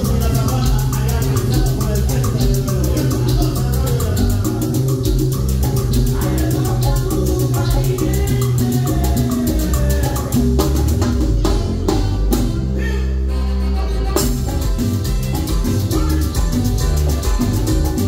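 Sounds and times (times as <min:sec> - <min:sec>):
high percussion strokes: 0:00.0 - 0:12.8, 0:14.1 - 0:18.0
held bass notes: 0:00.0 - 0:18.0
latin dance band playing: 0:00.0 - 0:18.0.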